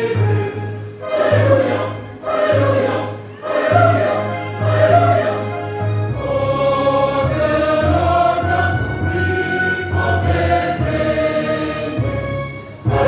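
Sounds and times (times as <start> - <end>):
choir singing a hymn: 0.0 - 13.0.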